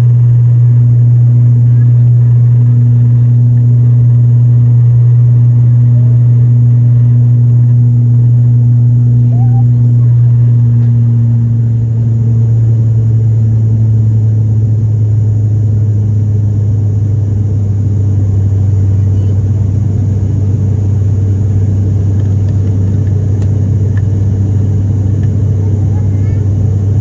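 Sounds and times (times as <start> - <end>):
turboprop engine drone: 0.0 - 27.0.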